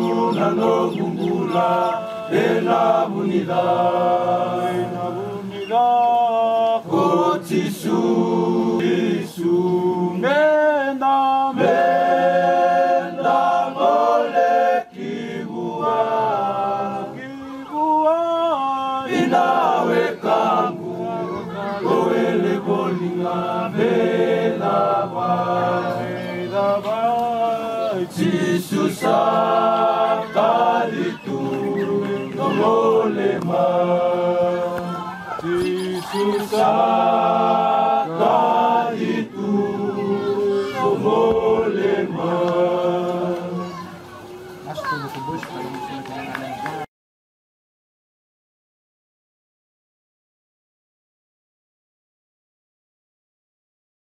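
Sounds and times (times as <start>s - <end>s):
men singing in harmony: 0.0s - 43.6s.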